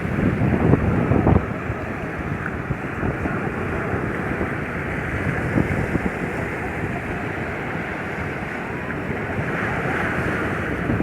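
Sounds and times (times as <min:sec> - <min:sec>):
sea waves washing onto beach: 0:00.0 - 0:11.0
wind on microphone: 0:00.0 - 0:11.0.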